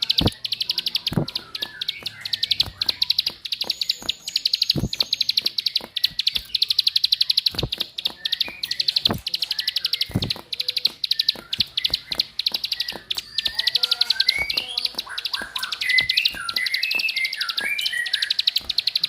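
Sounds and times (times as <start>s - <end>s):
bird clicking call: 0.0s - 19.0s.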